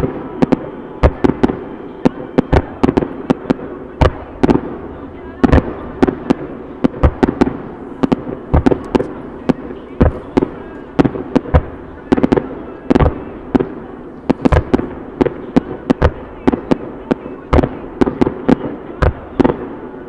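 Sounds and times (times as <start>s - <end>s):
continuous rumble: 0.0s - 20.0s
fireworks bangs: 0.0s - 20.0s.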